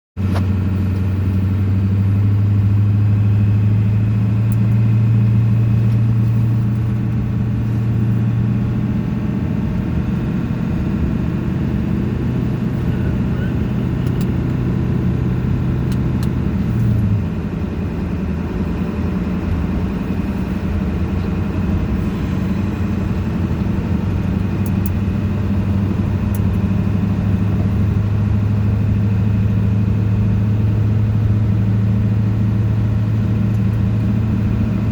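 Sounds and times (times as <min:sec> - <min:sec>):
road rumble: 0:00.2 - 0:34.9
vehicle engine hum: 0:00.2 - 0:34.9.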